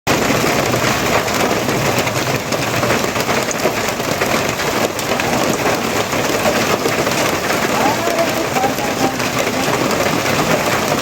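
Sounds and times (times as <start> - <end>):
heavy rain falling: 0.1 - 11.0.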